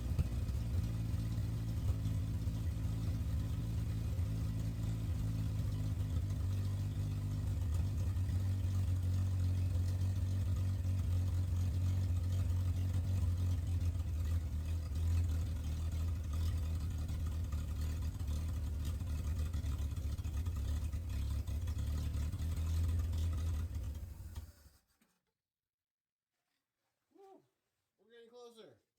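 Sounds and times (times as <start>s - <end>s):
truck engine running: 0.0s - 24.5s.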